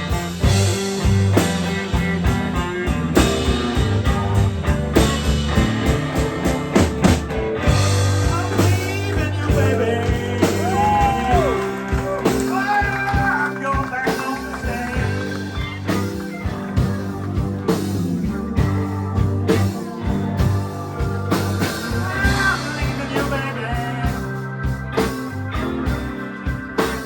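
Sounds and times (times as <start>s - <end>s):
blues band playing: 0.0s - 27.0s
electric guitar: 0.0s - 27.0s.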